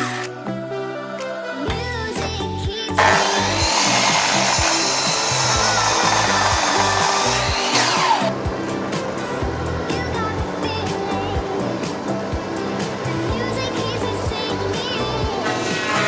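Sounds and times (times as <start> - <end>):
music with steady beat: 0.0 - 16.0
power tool hissing on wood: 3.0 - 16.0.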